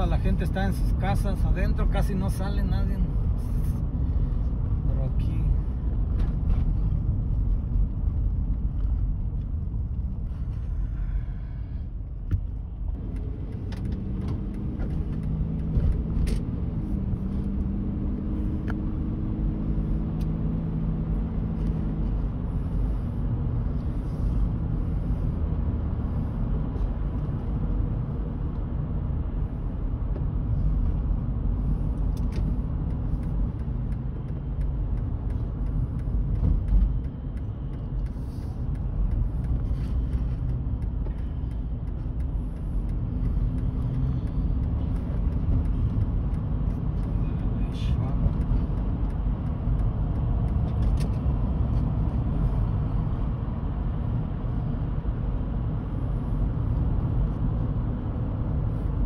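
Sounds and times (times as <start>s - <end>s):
engine hum: 0.0s - 59.0s
road and engine rumble: 0.0s - 59.0s.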